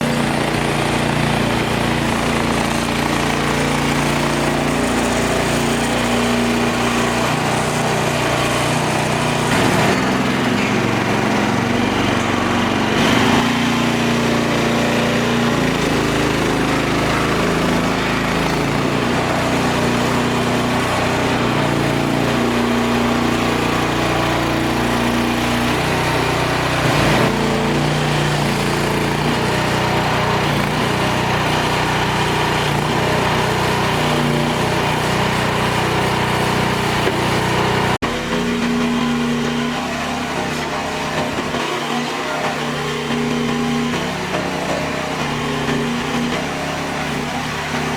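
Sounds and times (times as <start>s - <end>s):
small loader engine running: 0.0s - 47.9s.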